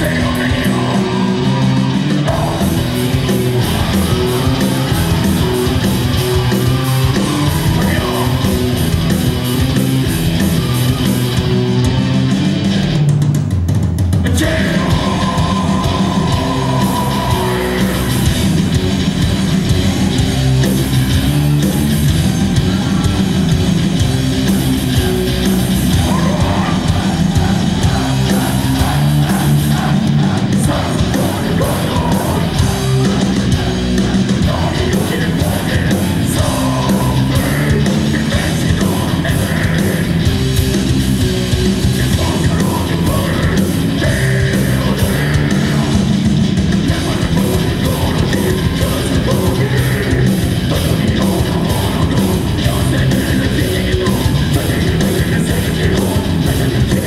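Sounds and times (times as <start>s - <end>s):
yelled vocals: 0.0s - 13.1s, 14.2s - 57.0s
bass guitar: 0.0s - 57.0s
distorted electric guitars: 0.0s - 57.0s.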